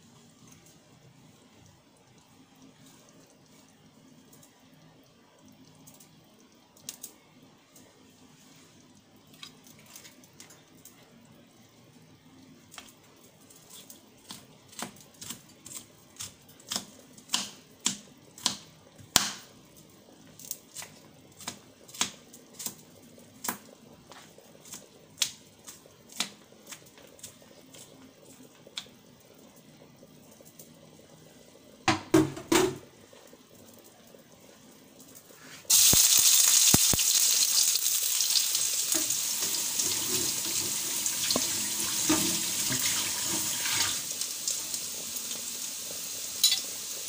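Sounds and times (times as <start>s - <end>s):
faint steady hum: 0.0s - 47.0s
food popping and crackling in pans: 5.4s - 7.9s, 9.2s - 11.1s, 12.5s - 31.1s, 31.7s - 47.0s.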